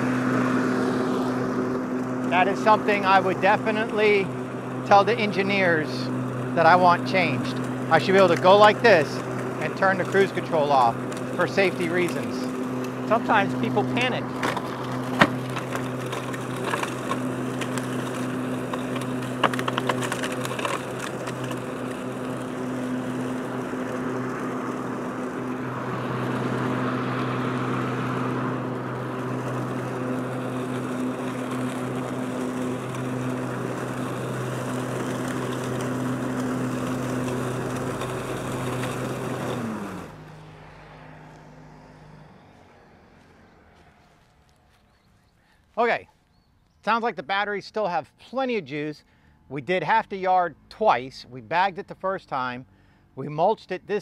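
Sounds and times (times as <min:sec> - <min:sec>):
mower blades spinning down: 0:00.0 - 0:44.7
electric mower humming: 0:00.0 - 0:54.0.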